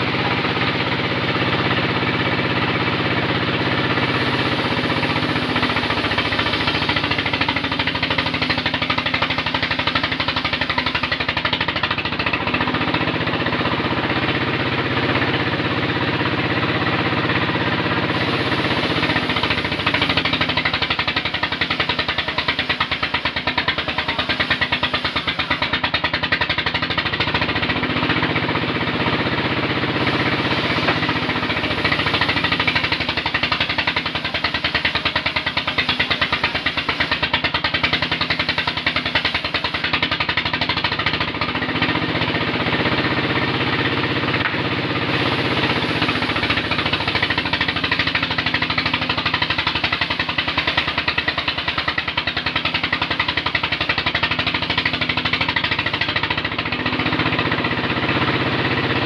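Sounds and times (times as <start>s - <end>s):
engine knocking steadily: 0.0s - 59.0s.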